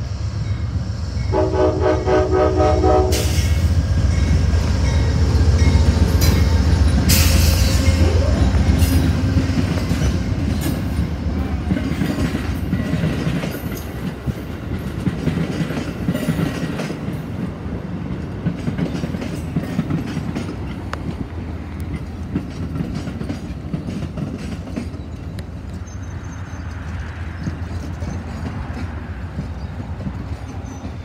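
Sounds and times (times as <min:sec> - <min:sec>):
diesel locomotive engine hum: 0:00.0 - 0:31.0
train wheels clickety-clack: 0:01.1 - 0:31.0.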